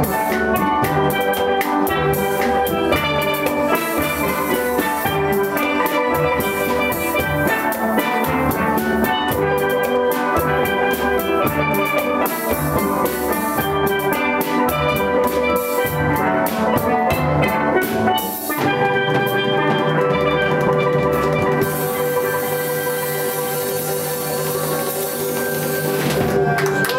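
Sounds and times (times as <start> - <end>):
drums beating: 0.0 - 26.9
steel pans playing: 0.0 - 26.9.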